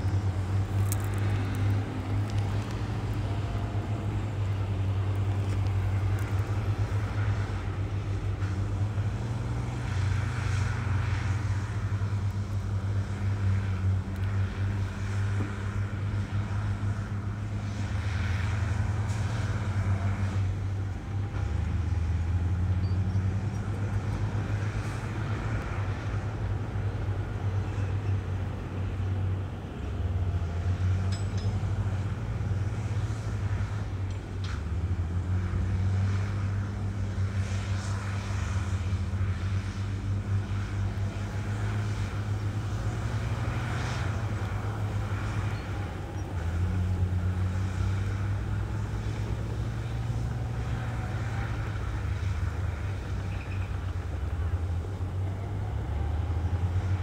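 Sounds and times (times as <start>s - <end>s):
heavy diesel engines rumbling: 0.0s - 57.0s.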